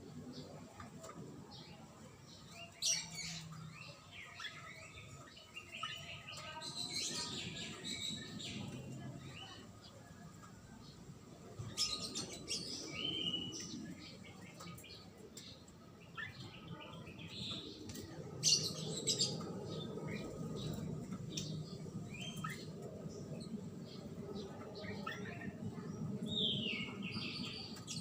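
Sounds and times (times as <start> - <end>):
low background noise: 0.0 - 28.0
bird chirping: 1.5 - 10.0, 10.7 - 28.0.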